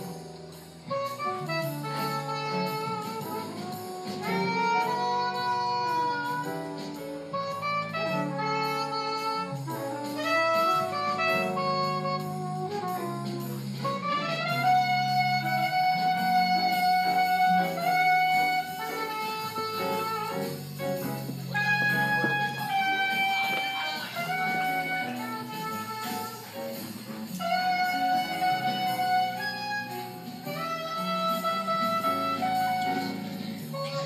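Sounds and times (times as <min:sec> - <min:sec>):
jazz band accompaniment: 0:00.0 - 0:34.0
tenor saxophone melody: 0:00.0 - 0:34.0.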